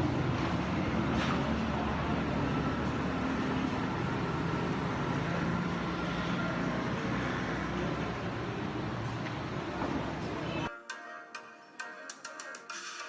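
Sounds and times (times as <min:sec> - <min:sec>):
vehicle engine hum with road noise: 0:00.0 - 0:10.7.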